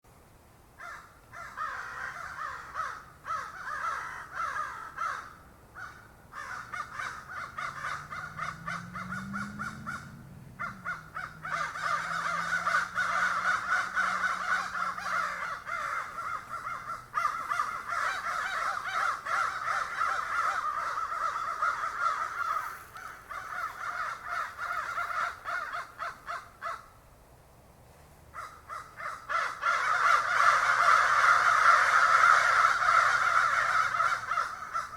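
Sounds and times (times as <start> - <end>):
crows cawing: 0.8 - 27.0, 28.3 - 34.9.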